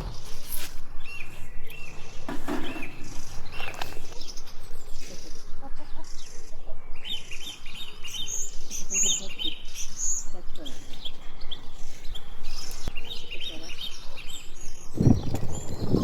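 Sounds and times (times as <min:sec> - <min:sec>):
constant background noise: 0:00.0 - 0:16.0
small birds chirping: 0:00.0 - 0:16.0.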